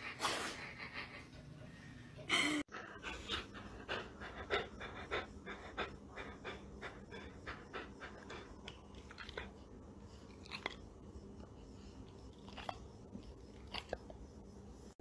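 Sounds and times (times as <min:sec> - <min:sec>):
dog panting: 0:00.0 - 0:14.1.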